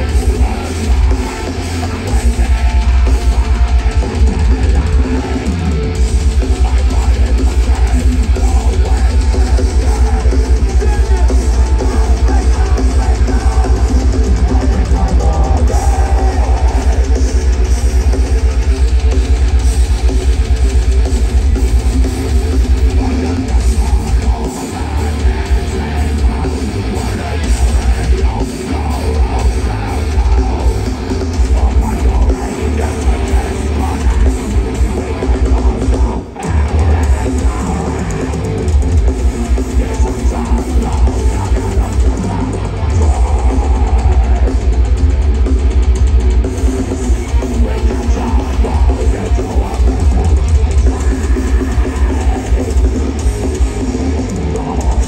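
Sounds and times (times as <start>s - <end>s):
heavy metal band playing live: 0.0s - 55.0s.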